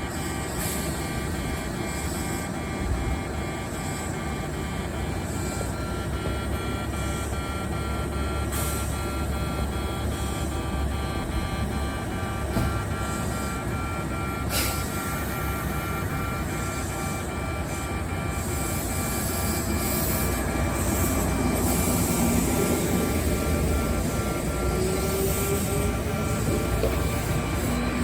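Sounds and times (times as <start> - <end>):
electric train running noise: 0.0 - 28.0
level-crossing alarm beeping: 0.0 - 28.0
train whine: 0.0 - 28.0.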